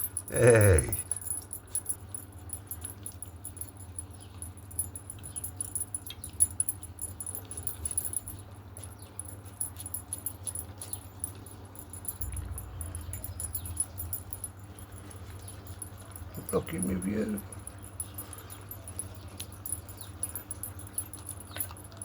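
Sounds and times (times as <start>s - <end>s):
light metallic clinks: 0.0s - 22.0s
puppy chewing and licking: 1.0s - 22.0s.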